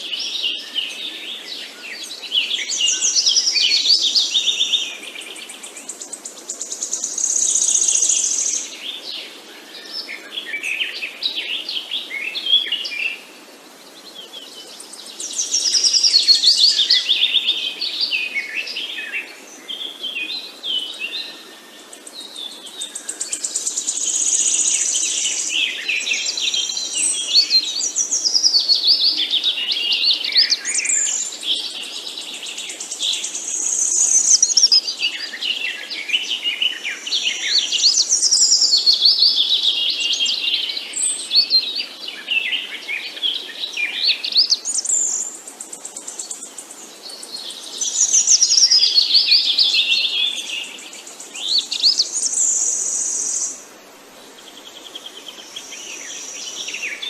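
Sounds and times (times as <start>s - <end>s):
faint background hiss: 0.0s - 57.0s
songbirds singing: 0.0s - 57.0s.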